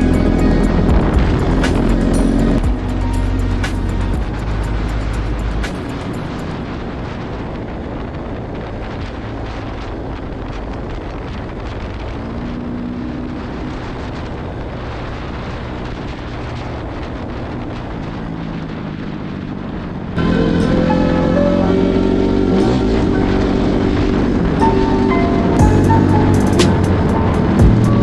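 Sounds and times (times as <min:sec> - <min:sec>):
wind rush on microphone: 0:00.0 - 0:20.2, 0:20.8 - 0:28.0
dirt bike engine running: 0:00.0 - 0:28.0.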